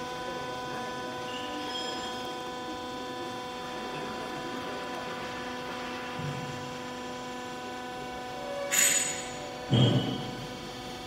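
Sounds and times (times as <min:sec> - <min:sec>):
electrical machine hum: 0:00.0 - 0:11.0.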